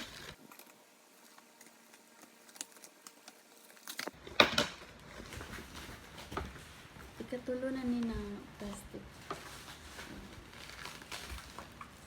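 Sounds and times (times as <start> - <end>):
plastic packaging crinkling: 0.0 - 4.2, 4.8 - 12.0.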